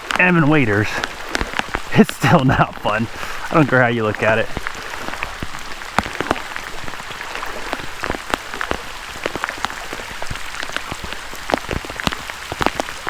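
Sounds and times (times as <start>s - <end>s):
heavy rain falling: 0.0s - 13.0s
raindrops hitting close by: 0.0s - 13.0s.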